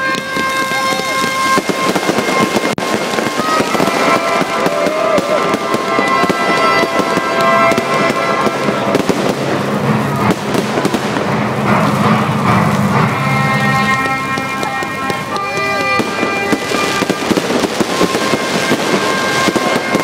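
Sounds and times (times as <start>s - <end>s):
fireworks crackling bursts: 0.0s - 20.0s.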